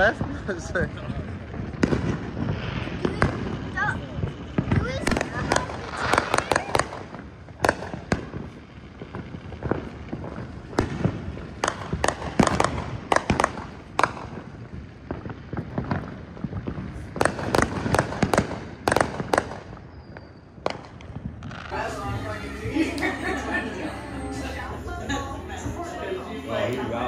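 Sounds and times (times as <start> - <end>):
fireworks bangs and pops: 0.0 - 22.2
distant fireworks crackling: 0.0 - 27.0.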